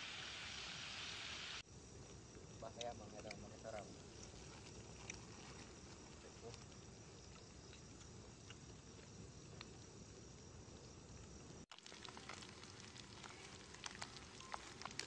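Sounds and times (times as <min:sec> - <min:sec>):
faint insects trilling: 0:00.0 - 0:15.0
faint ticks and crackles: 0:01.7 - 0:15.0.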